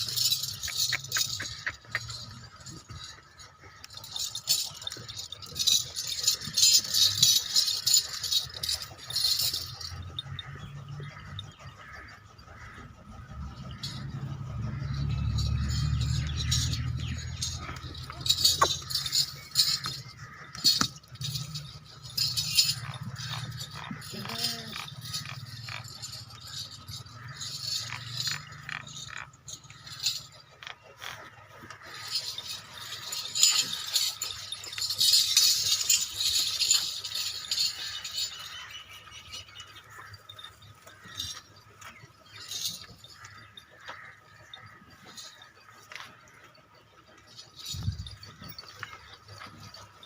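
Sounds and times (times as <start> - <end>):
goats rattling and clinking: 0.0 - 50.0.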